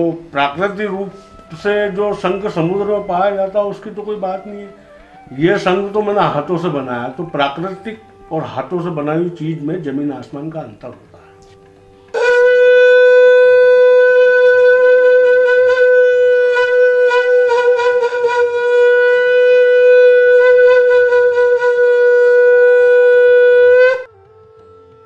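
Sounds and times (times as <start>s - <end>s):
conch blown as trumpet: 0.0s - 9.3s, 11.2s - 25.0s.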